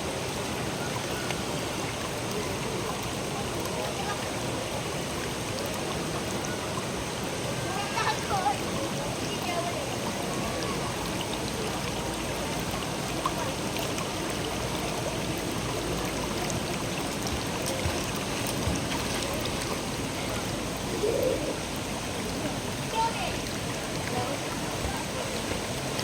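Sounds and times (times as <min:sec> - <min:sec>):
river water running over rocks: 0:00.0 - 0:26.0.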